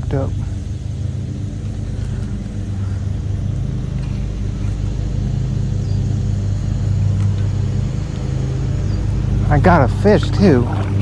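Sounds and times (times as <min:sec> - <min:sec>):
loud low motor hum: 0:00.0 - 0:11.0.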